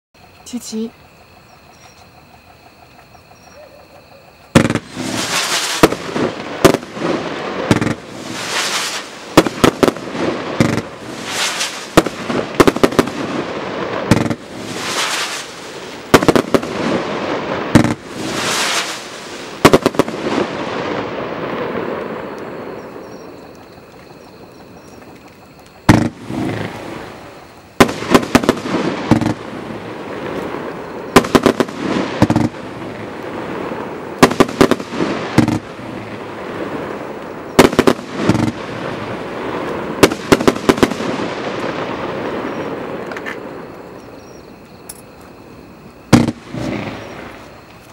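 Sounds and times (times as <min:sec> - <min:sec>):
firework crackling: 0:04.3 - 0:44.7, 0:45.5 - 0:47.9
fireworks launching and bursting: 0:04.4 - 0:44.2, 0:45.9 - 0:47.9.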